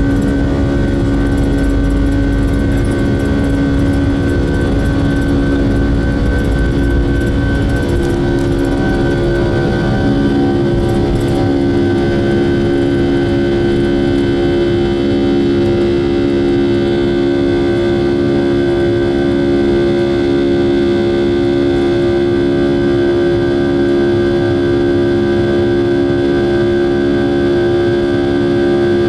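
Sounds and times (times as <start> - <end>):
jet engines roaring at takeoff: 0.0 - 29.0.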